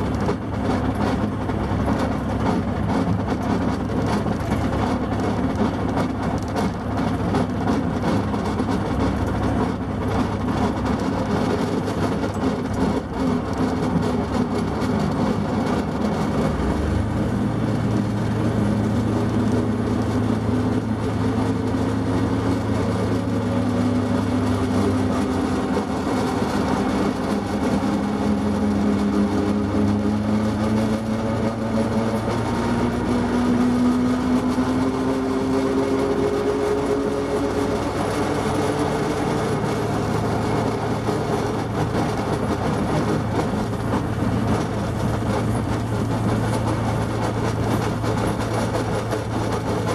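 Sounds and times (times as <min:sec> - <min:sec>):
locomotive engine running: 0:00.0 - 0:49.9.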